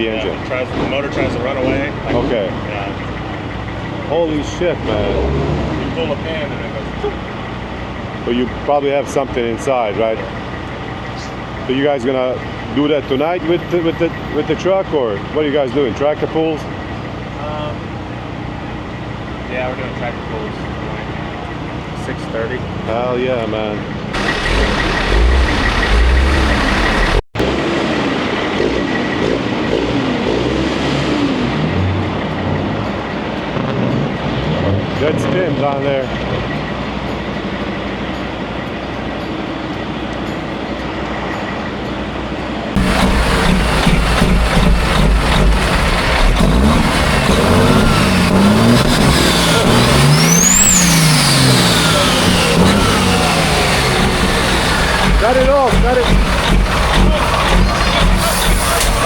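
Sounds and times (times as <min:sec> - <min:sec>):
heavy truck engine running: 0:00.0 - 0:30.6, 0:31.3 - 0:59.0.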